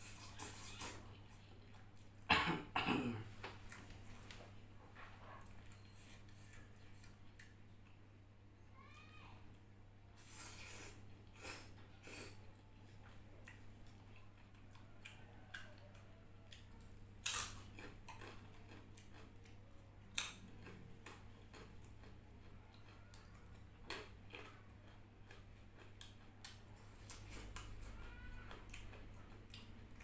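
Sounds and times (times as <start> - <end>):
person chewing noodles: 0.0 - 2.3, 5.4 - 8.0, 10.2 - 30.0.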